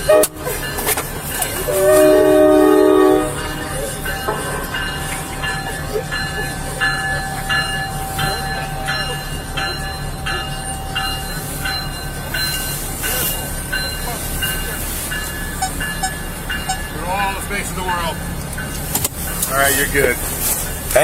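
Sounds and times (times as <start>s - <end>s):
crossing warning bell ringing: 0.0s - 21.0s
low rumble of passing train: 0.0s - 21.0s.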